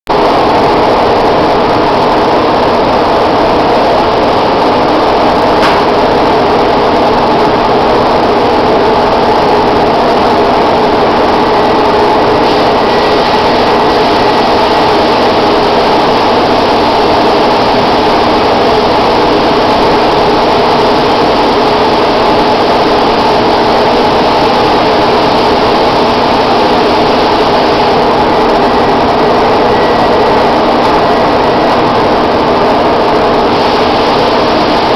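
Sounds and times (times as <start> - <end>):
paint sprayer motor drone: 2.4 - 34.9.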